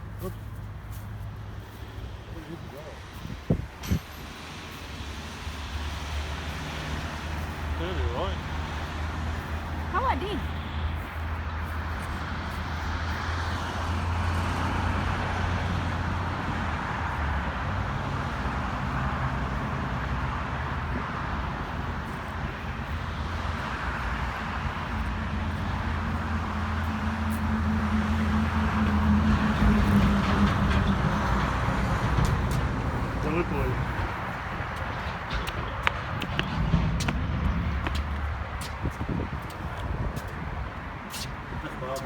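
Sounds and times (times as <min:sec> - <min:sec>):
highway traffic passing: 0:00.0 - 0:42.0
heavy vehicle engine: 0:03.5 - 0:41.0.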